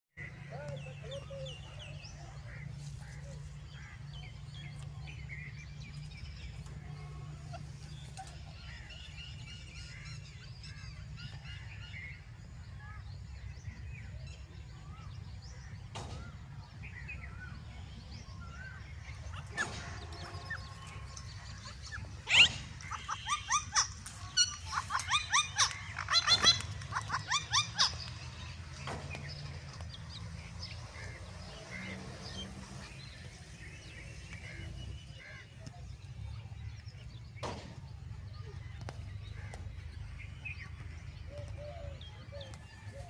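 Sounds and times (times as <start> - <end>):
birds chirping and whistling: 0.2 - 43.0.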